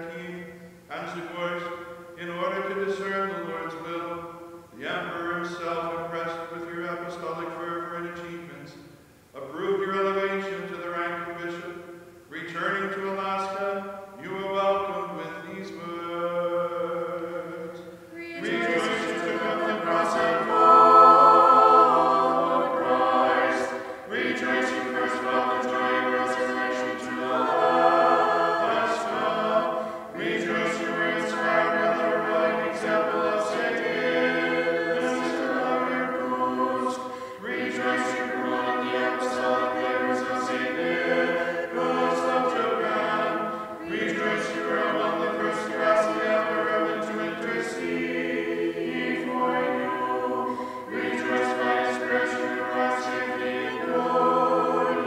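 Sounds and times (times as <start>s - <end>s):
voices singing a liturgical chant: 0.0s - 8.8s, 9.4s - 55.0s.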